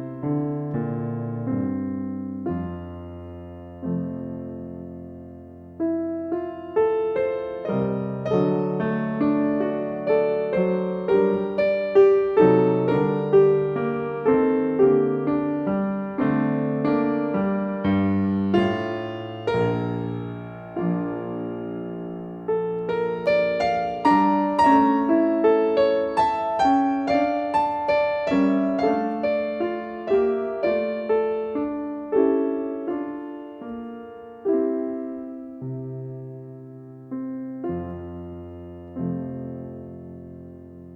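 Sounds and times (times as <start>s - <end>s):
slow solo piano: 0.0s - 40.9s.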